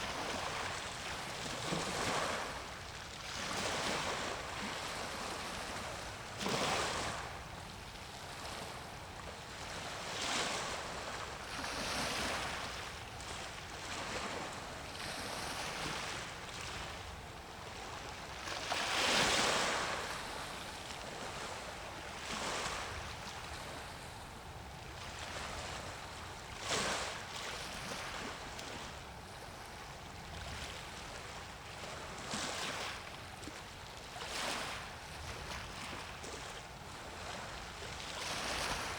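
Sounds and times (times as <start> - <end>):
small waves splashing: 0.0 - 38.9
wind: 0.0 - 38.9.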